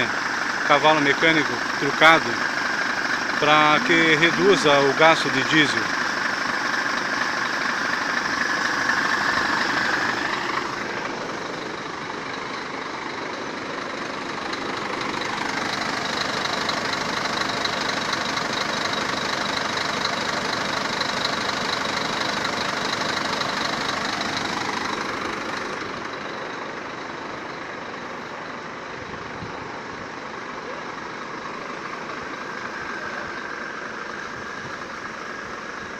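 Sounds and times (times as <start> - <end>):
diesel engine knocking: 0.0 - 35.9.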